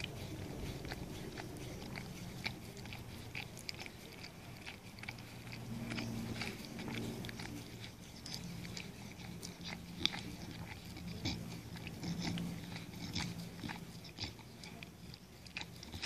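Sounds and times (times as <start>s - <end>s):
dog licking and gnawing ice: 0.0s - 16.0s
low steady hum: 0.0s - 16.0s.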